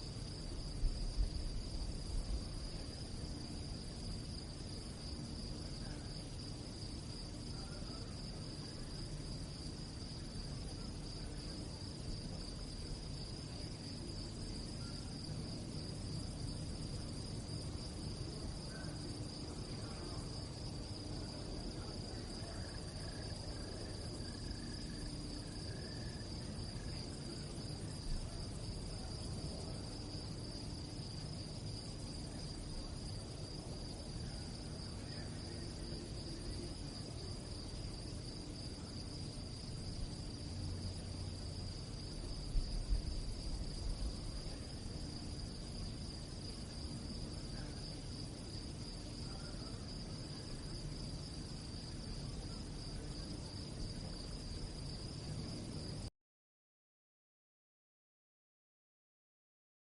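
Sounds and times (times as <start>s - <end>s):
crickets chirping chorus: 0.0s - 56.1s
low background rumble: 0.0s - 56.1s.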